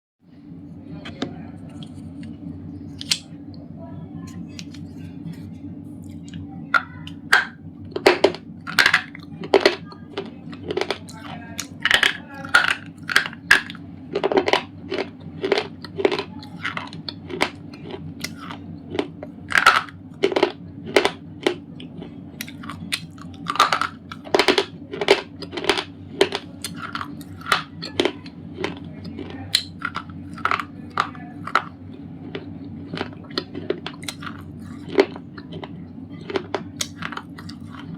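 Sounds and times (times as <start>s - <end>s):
steady low hum: 0.2s - 37.9s
chewing dry crunches: 4.3s - 37.9s.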